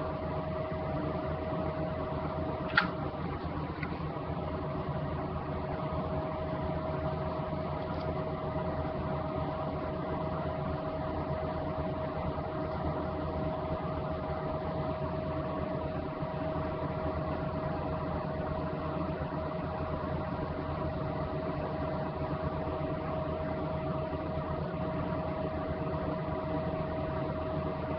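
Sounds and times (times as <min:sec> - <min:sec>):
mechanical hum with whine: 0:00.0 - 0:27.9.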